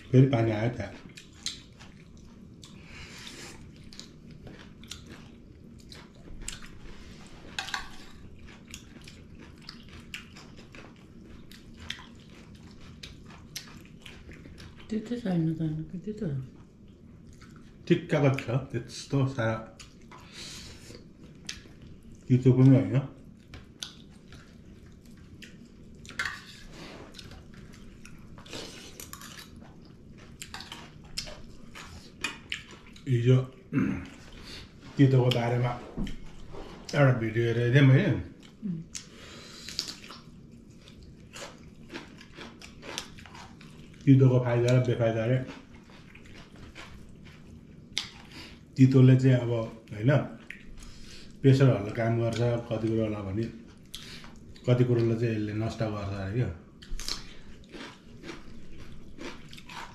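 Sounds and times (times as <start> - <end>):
people chewing crunchy food: 0.0 - 15.5, 16.4 - 59.9.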